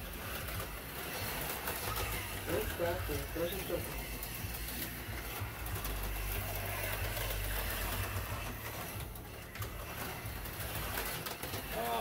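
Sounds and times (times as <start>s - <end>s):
slot car motors whirring: 0.0s - 12.0s.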